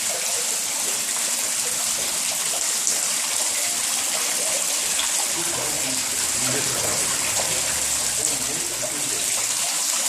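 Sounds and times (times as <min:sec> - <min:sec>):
water pouring over waterfall: 0:00.0 - 0:10.0.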